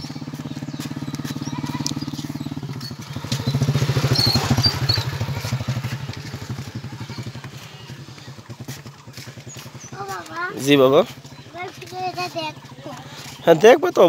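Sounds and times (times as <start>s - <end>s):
motorcycle riding past: 0.0s - 14.0s.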